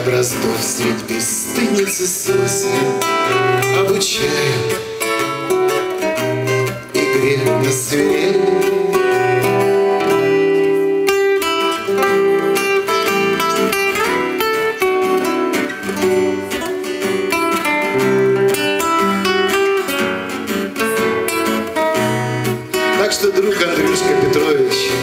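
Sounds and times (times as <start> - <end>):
acoustic guitar: 0.0 - 25.0.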